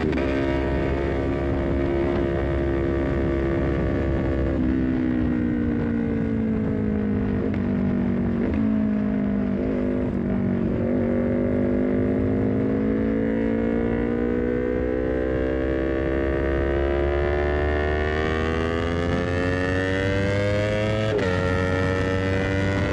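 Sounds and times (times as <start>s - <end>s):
wind rumble: 0.0s - 15.0s, 15.7s - 22.9s
motorcycle engine revving: 0.0s - 22.9s.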